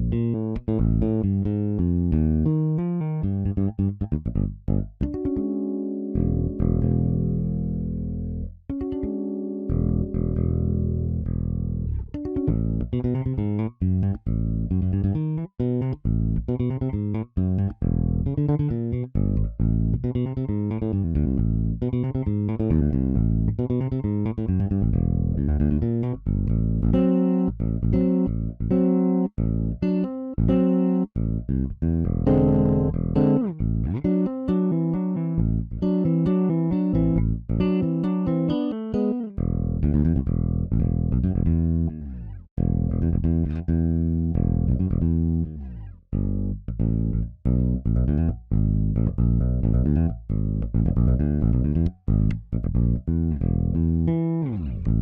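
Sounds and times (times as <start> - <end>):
electric bass funk groove: 0.0 - 5.6, 6.2 - 55.0.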